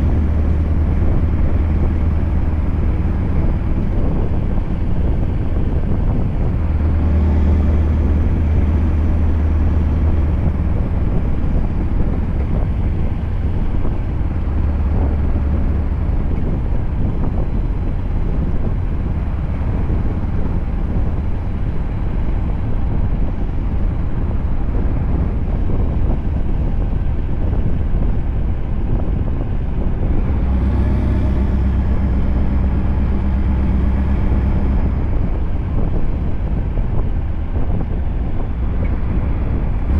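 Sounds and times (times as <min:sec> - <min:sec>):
road and wind noise: 0:00.0 - 0:39.9
truck engine droning: 0:00.0 - 0:39.9.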